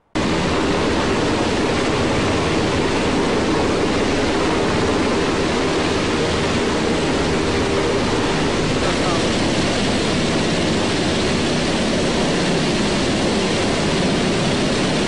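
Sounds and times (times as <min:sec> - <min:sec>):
helicopter hovering: 0:00.2 - 0:15.0.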